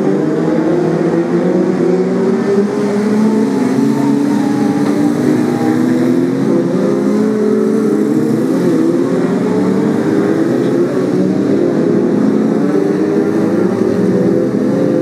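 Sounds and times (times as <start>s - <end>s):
racing car engines droning: 0.0s - 15.0s.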